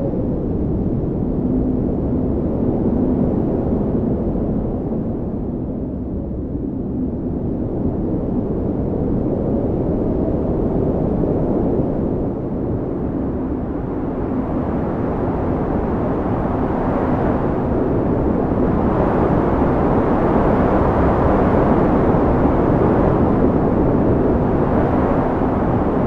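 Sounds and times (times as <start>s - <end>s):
strong wind rushing: 0.0s - 26.0s.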